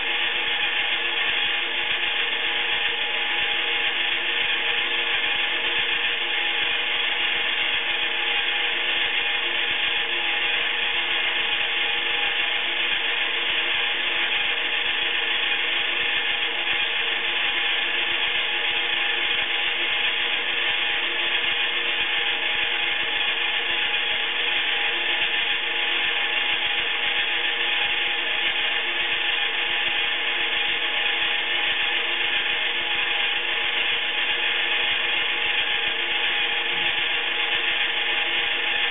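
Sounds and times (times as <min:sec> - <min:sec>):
toy washing machine motor whirring: 0:00.2 - 0:38.9.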